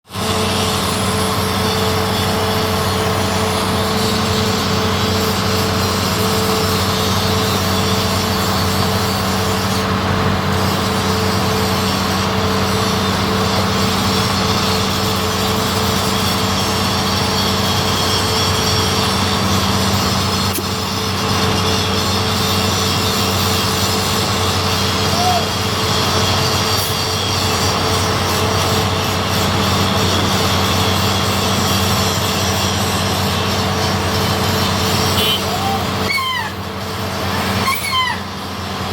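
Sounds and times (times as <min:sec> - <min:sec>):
diesel engine humming: 0:00.1 - 0:38.9.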